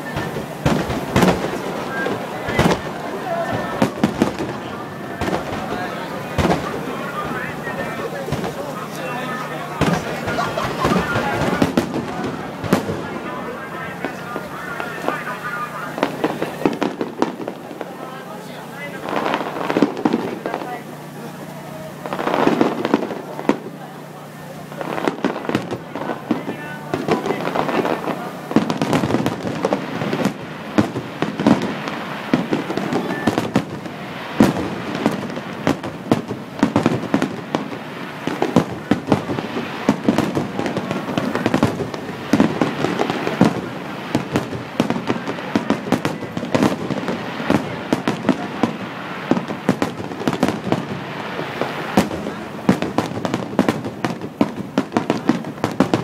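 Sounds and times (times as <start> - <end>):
firework bangs and crackles: 0.0 - 56.0.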